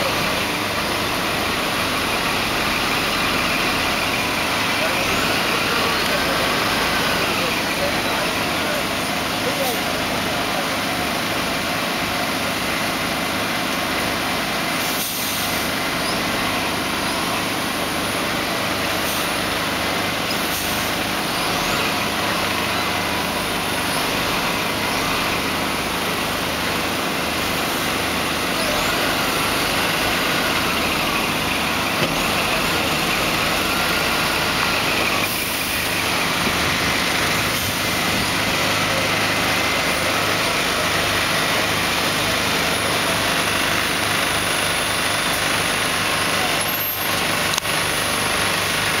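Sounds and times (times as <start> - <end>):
diesel truck engine under load: 0.0 - 49.0.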